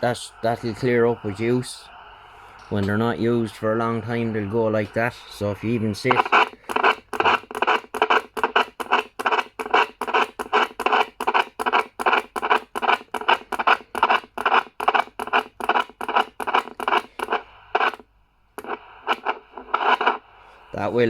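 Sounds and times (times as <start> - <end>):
radio static chopping on and off: 0.0 - 21.0.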